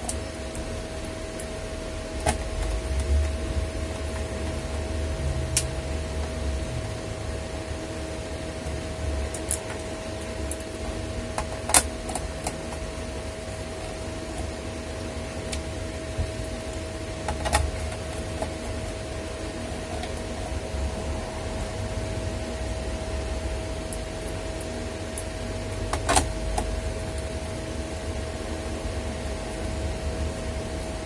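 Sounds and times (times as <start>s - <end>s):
electric fan humming: 0.0s - 31.0s.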